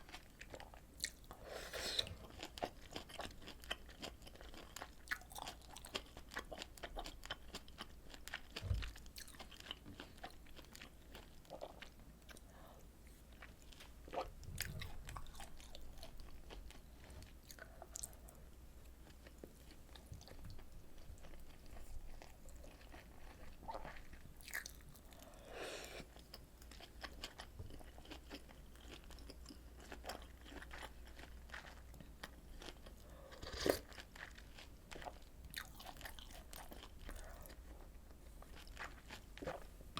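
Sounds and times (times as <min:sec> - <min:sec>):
wet chewing and crunching: 0:00.0 - 0:12.5, 0:13.3 - 0:25.4, 0:26.0 - 0:39.8.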